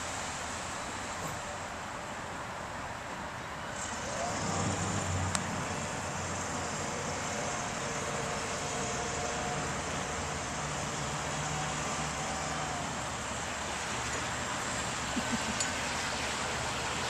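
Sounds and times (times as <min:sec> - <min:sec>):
boat engines droning: 0:00.0 - 0:17.0
highway traffic noise: 0:00.0 - 0:17.0.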